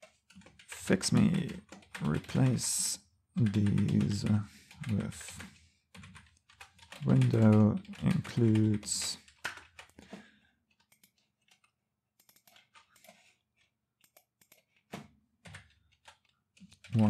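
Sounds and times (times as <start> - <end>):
keyboard typing: 0.0 - 17.0.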